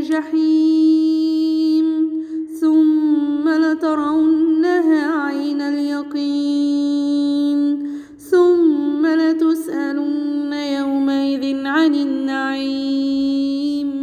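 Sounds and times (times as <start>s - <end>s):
woman chanting melodically: 0.0s - 14.0s.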